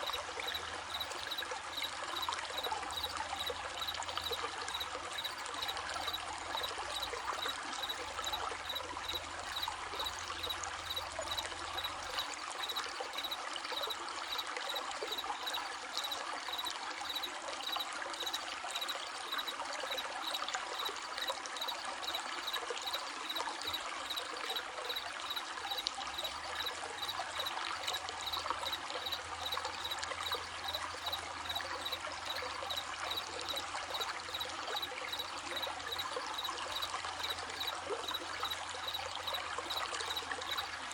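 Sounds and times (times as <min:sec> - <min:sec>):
crickets chirping: 0:00.0 - 0:40.9
stream babbling: 0:00.0 - 0:40.9.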